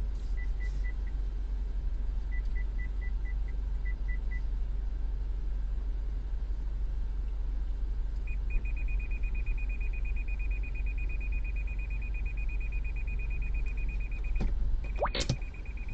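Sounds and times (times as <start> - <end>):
low rumble of vehicle: 0.0 - 15.9.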